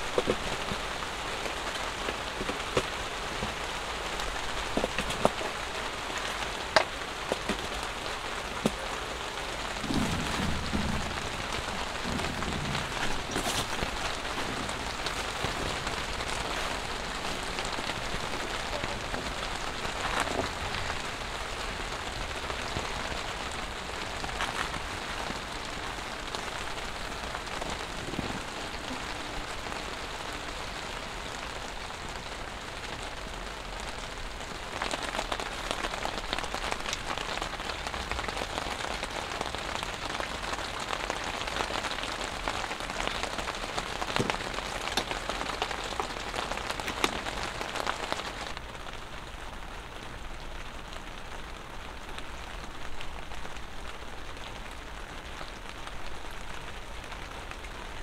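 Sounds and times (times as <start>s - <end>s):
rain pattering on tent fabric: 0.0s - 58.0s.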